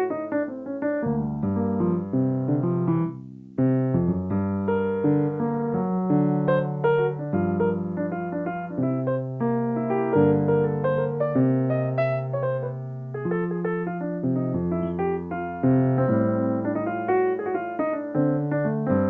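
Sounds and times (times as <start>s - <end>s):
solo piano playing chords: 0.0s - 19.0s.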